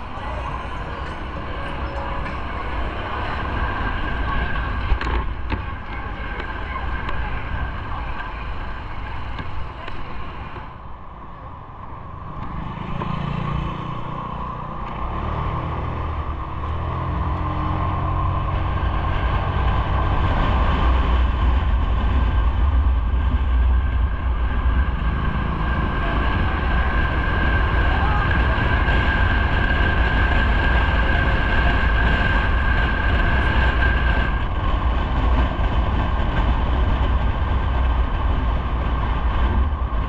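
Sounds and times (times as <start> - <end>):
vehicle engine rising in pitch: 0.0 - 8.0, 11.9 - 40.0
road and wind rumble: 0.0 - 40.0.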